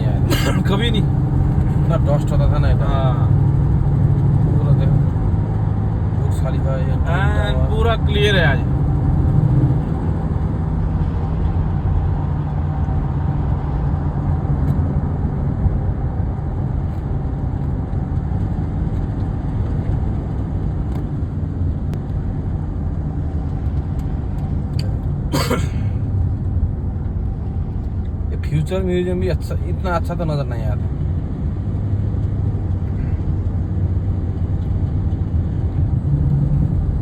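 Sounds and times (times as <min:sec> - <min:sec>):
car driving road rumble: 0:00.0 - 0:37.0.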